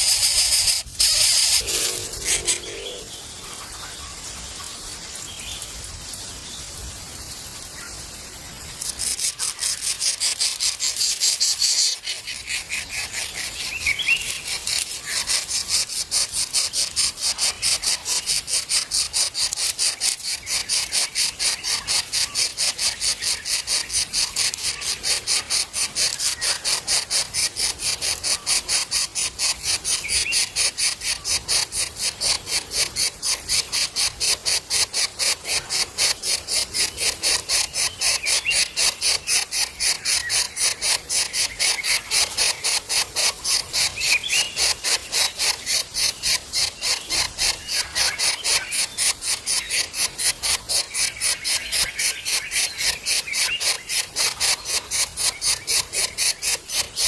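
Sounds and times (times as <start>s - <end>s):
pulsed insect rasping: 0.0s - 3.8s, 8.7s - 57.0s.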